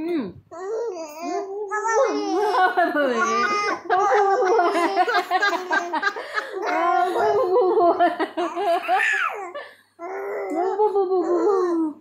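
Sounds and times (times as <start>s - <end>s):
baby laughing and babbling: 0.5s - 12.0s.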